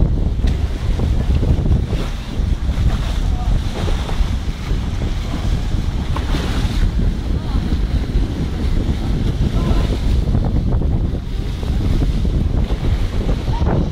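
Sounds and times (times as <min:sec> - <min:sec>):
sea rushing: 0:00.0 - 0:13.9
wind buffeting microphone: 0:00.0 - 0:13.9.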